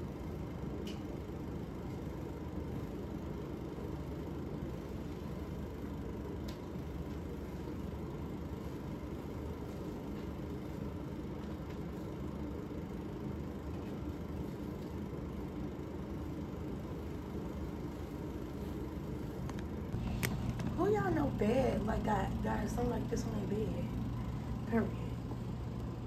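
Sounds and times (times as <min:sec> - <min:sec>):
low machine hum with hiss: 0:00.0 - 0:26.0.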